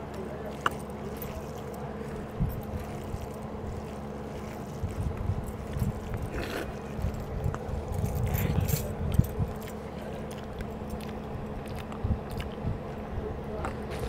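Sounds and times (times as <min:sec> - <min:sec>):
mouths chewing: 0:00.0 - 0:13.0
faint steady hum: 0:00.0 - 0:14.0.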